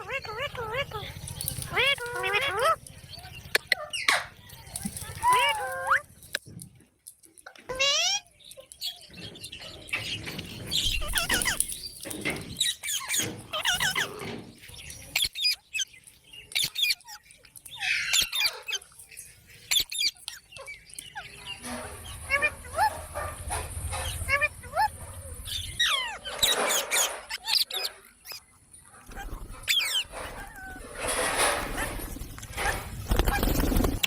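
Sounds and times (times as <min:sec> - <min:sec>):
parrots squawking and chirping: 0:00.0 - 0:06.4, 0:07.4 - 0:34.0.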